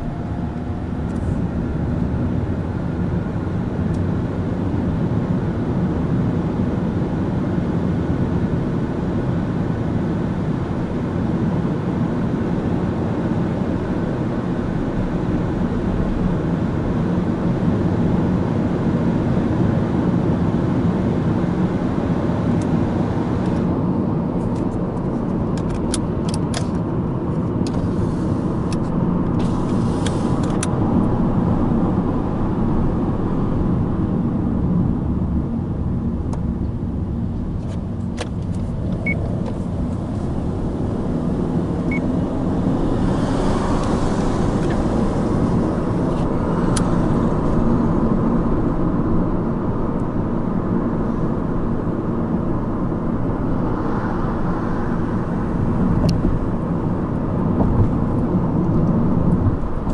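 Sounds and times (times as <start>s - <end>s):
in-cabin car engine drone: 0.0s - 59.9s
road noise: 0.0s - 59.9s.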